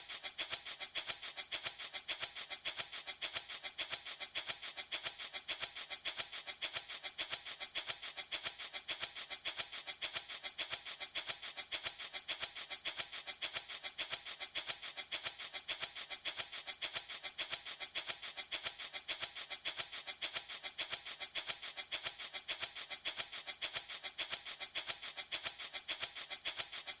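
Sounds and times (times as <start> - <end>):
baby rattle shaken: 0.0 - 27.0.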